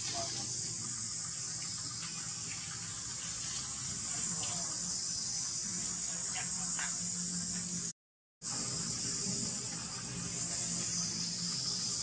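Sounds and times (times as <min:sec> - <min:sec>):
high-pitched insect drone: 0:00.0 - 0:07.9, 0:08.5 - 0:12.0.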